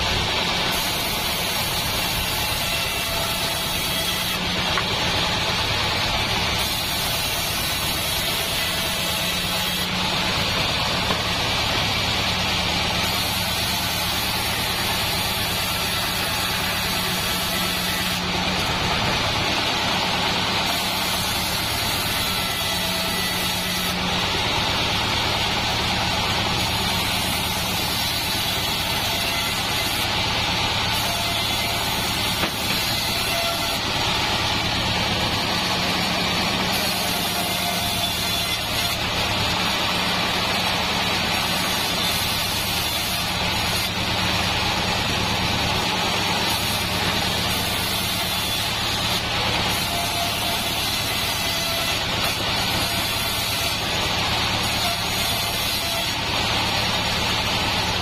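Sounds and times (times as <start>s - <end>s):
band blade sawing wood: 0.0s - 58.0s
bandsaw mill drone: 0.0s - 58.0s.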